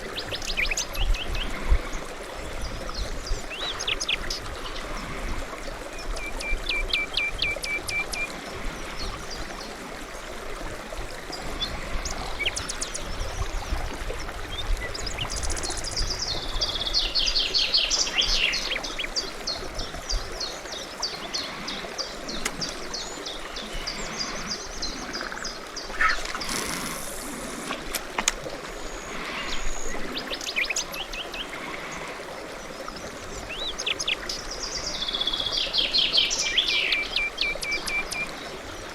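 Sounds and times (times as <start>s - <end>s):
songbirds singing: 0.0s - 10.4s, 11.2s - 38.9s
flowing water rushing: 0.0s - 38.9s.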